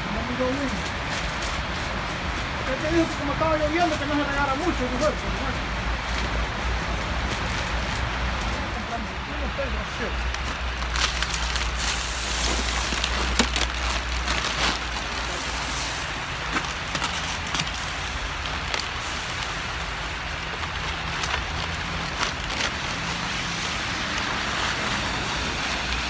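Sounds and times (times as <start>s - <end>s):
highway traffic hiss: 0.0s - 26.0s.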